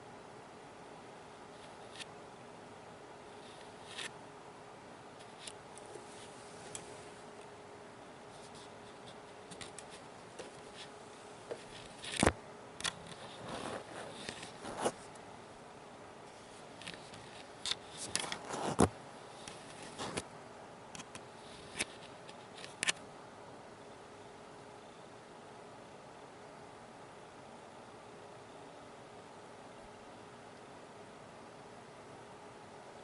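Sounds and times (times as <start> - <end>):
faint hum and hiss: 0.0 - 33.0.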